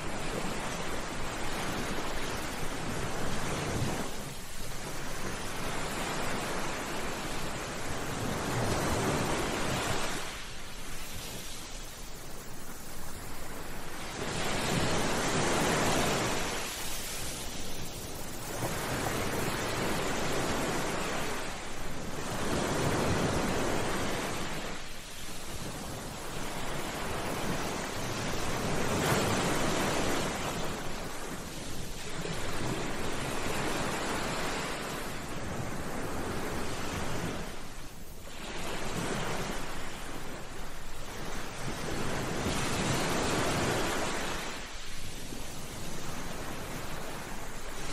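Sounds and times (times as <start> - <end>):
sea waves washing onto beach: 0.0 - 47.9.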